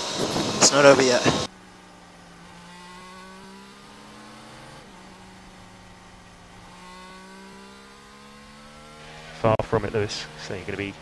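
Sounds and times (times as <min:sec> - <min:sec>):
racing car engine over radio: 0:00.0 - 0:11.0.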